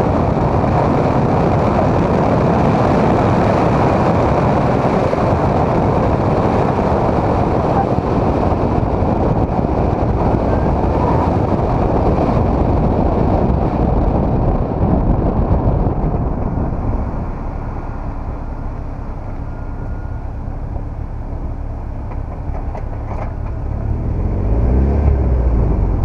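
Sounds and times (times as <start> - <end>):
car driving at speed: 0.0 - 26.0
wind noise on microphone: 0.0 - 26.0.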